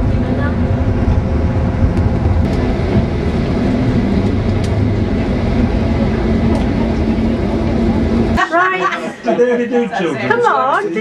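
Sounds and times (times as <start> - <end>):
road rumble: 0.0 - 9.0
engine hum: 0.0 - 9.3.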